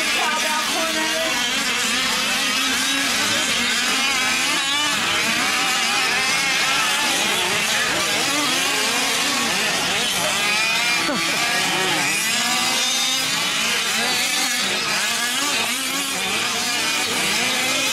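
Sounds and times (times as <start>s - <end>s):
small two-stroke engines revving: 0.0s - 17.9s.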